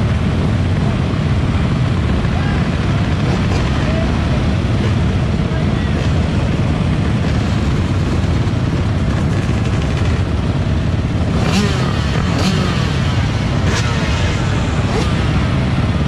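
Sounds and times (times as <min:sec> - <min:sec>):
dirt bike engines rumbling: 0:00.0 - 0:16.0.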